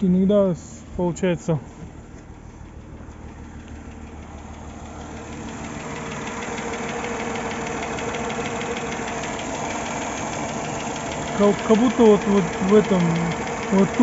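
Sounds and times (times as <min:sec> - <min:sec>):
car engine revving: 0:01.8 - 0:14.0
engine knocking: 0:01.9 - 0:14.0.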